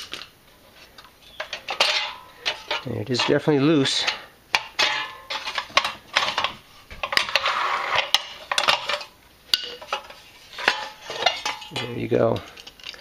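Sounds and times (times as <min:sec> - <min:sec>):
metal scraping: 0:01.3 - 0:13.0.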